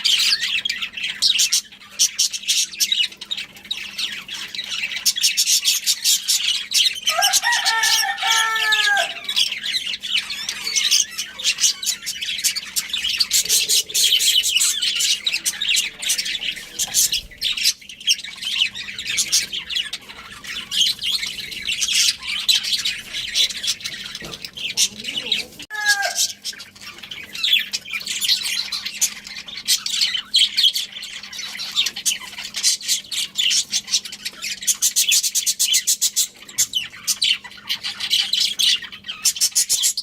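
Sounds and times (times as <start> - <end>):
budgerigars chirping: 0.0 - 40.0.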